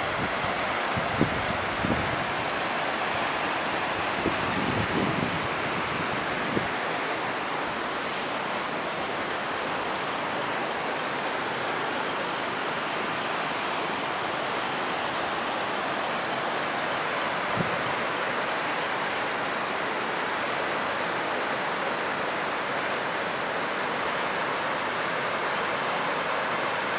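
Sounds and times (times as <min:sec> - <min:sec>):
waterfall roaring: 0:00.0 - 0:26.9.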